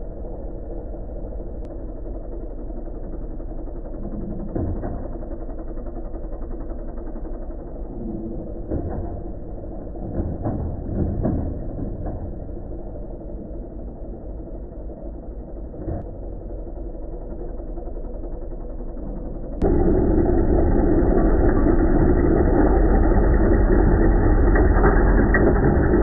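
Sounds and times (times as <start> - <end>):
tractor engine running: 1.2 - 26.0.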